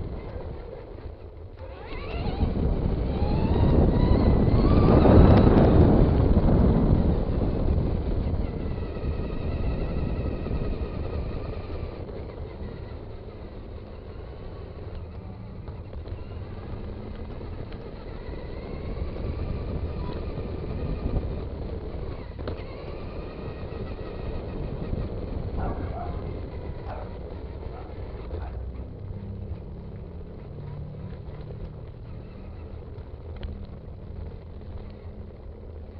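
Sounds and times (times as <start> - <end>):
electric motor whining: 0.0 - 35.9
tyres rumbling: 0.0 - 35.9
wind on microphone: 0.0 - 35.9.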